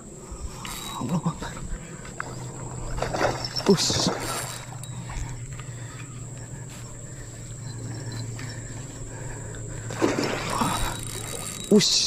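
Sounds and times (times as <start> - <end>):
insect chorus: 0.0 - 12.0
low steady hum: 0.0 - 12.0.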